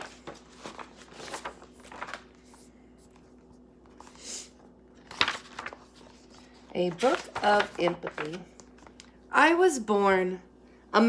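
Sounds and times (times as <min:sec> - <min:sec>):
book pages turning: 0:00.0 - 0:09.2.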